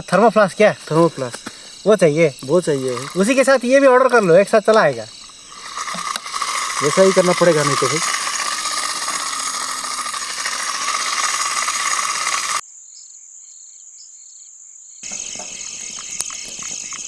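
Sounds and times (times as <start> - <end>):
crickets and insects trilling: 0.0 - 12.6, 15.0 - 17.0.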